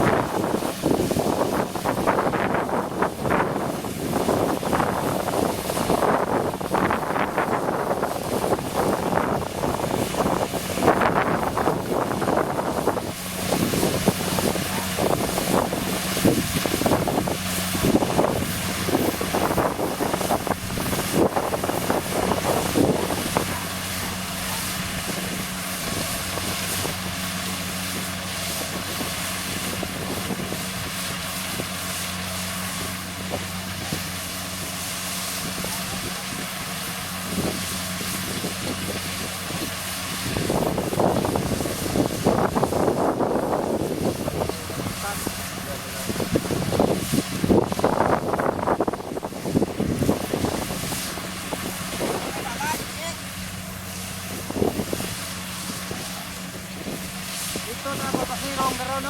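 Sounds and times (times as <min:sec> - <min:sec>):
combine harvester diesel engine: 0:00.0 - 0:59.0
wind buffeting microphone: 0:00.0 - 0:59.0.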